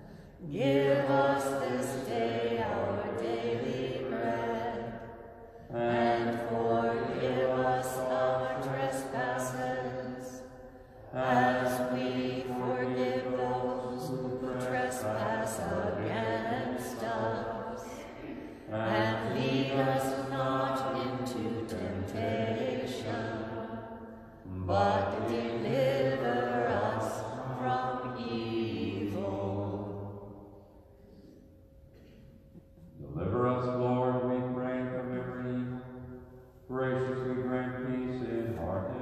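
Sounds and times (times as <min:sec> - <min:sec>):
voices singing liturgical chant: 0:00.0 - 0:30.6, 0:36.7 - 0:39.0.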